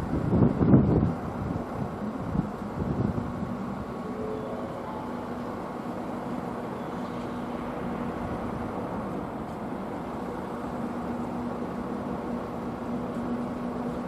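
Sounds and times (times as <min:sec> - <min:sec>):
electric locomotive hum: 0:00.0 - 0:14.0
train rolling noise: 0:00.0 - 0:14.0.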